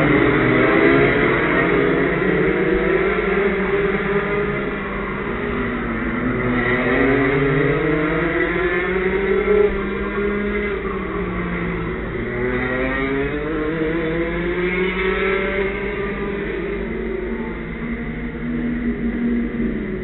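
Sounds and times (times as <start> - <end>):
go-kart engines revving: 0.0 - 20.0.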